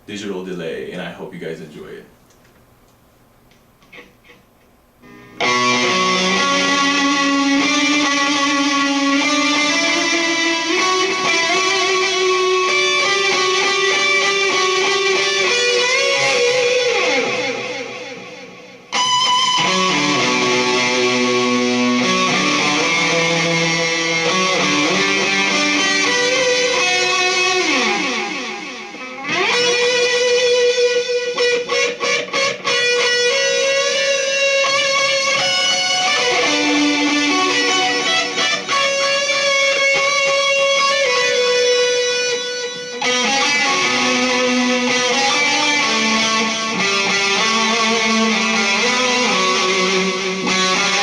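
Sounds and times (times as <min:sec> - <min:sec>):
distorted electric guitar solo: 0:05.0 - 0:51.0.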